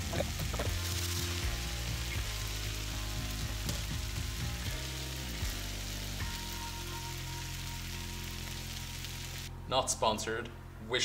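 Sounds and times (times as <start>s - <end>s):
meat sizzling in a frying pan: 0.0s - 9.5s
low background music: 0.0s - 11.0s.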